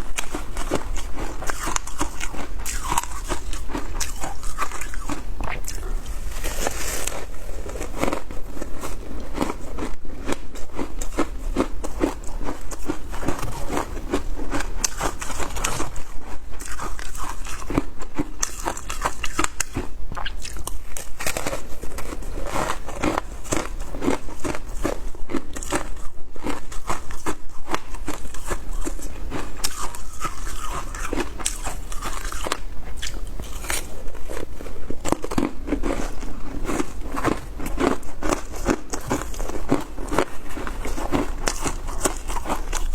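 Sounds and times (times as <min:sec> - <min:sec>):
ice crunching between teeth: 0:00.0 - 0:42.9.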